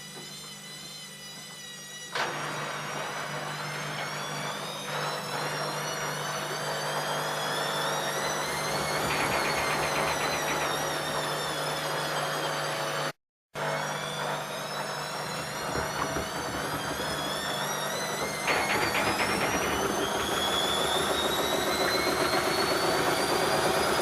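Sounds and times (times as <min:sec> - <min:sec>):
washing machine motor whine: 0:00.0 - 0:24.0.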